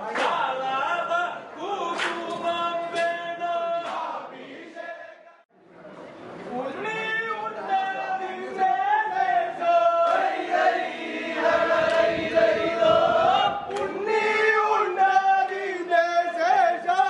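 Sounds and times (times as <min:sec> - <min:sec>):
group singing in unison: 0:00.0 - 0:05.4, 0:07.8 - 0:17.0.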